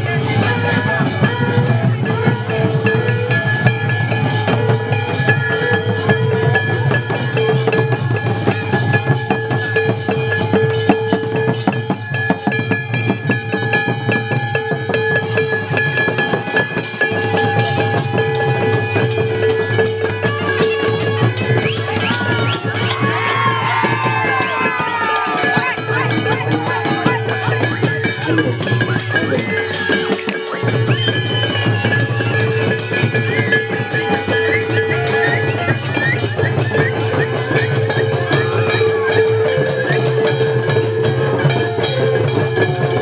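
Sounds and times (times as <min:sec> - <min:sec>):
drums and percussion beating: 0:00.0 - 0:43.0.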